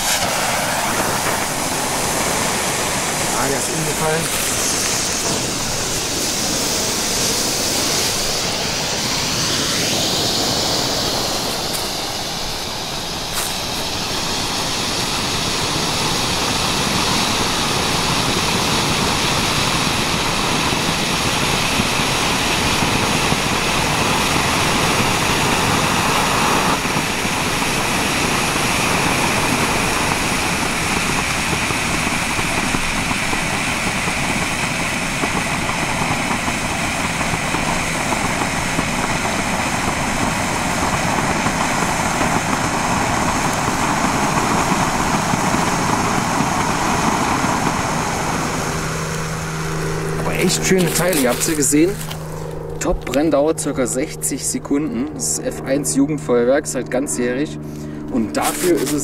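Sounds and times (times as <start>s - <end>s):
flares burning with a hiss: 0.0s - 53.4s, 57.6s - 59.0s.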